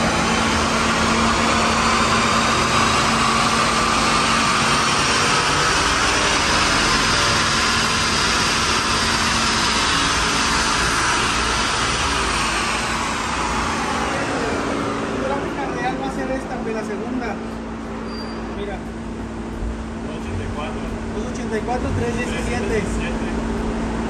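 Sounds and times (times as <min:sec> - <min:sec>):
car engine at full throttle: 0:00.0 - 0:18.0, 0:18.6 - 0:24.0.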